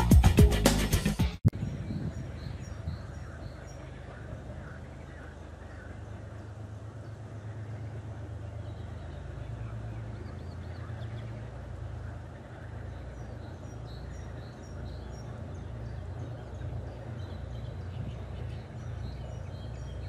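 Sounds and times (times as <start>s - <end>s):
small birds chirping: 1.5s - 20.0s
wind buffeting microphone: 1.5s - 20.0s.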